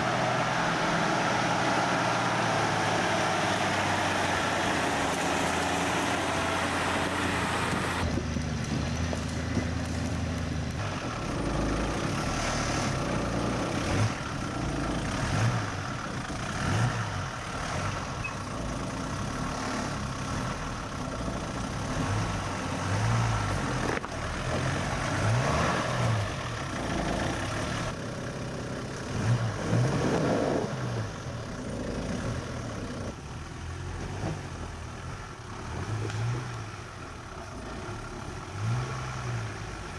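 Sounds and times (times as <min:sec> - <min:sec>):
vehicle engine under load: 0:00.0 - 0:39.9.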